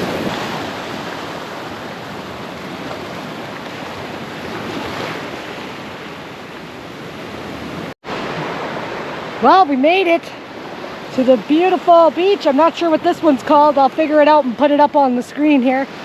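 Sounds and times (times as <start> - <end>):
ocean waves breaking on shore: 0.0 - 16.0.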